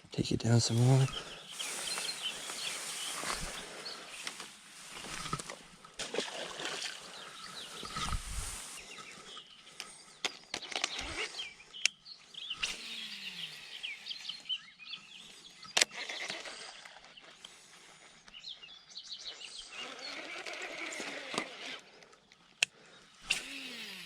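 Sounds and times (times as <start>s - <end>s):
bird chorus chirping: 0.0s - 5.9s, 6.6s - 20.6s.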